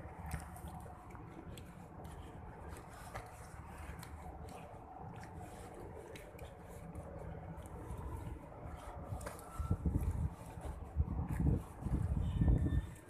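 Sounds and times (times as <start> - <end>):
steady low rumble: 0.0 - 13.0
footsteps on concrete: 0.1 - 13.0.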